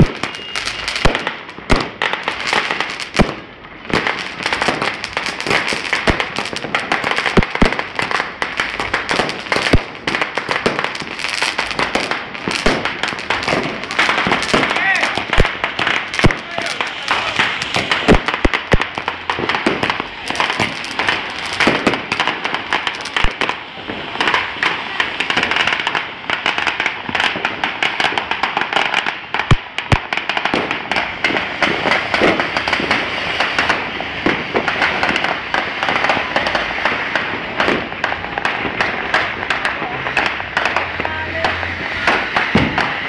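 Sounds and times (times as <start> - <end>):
firecrackers banging: 0.0 - 43.0.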